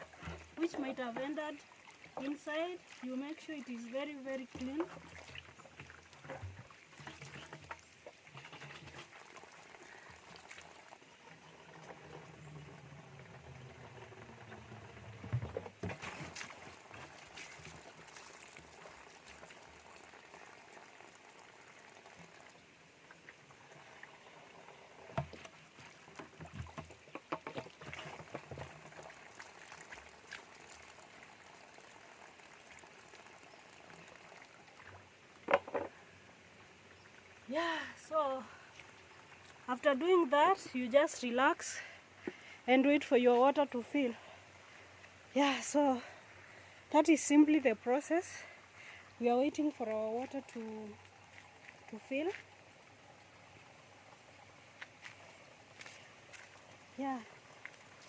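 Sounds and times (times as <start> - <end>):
water trickling into container: 0.0 - 58.0.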